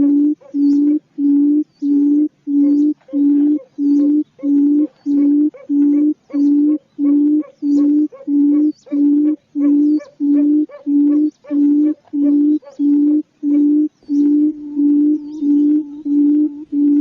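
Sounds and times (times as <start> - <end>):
quail hooting: 0.0 - 17.0.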